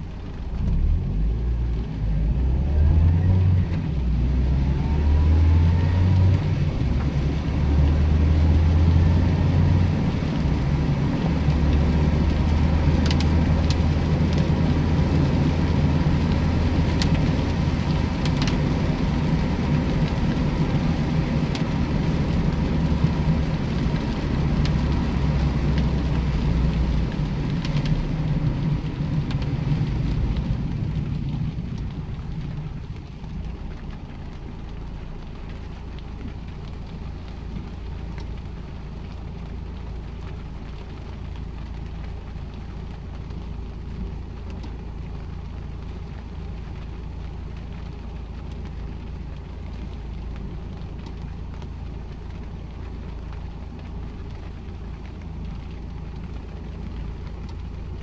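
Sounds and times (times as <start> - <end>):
car engine low drone: 0.0 - 58.0
rain on a car: 0.0 - 58.0
tyres hissing on wet road: 0.0 - 58.0.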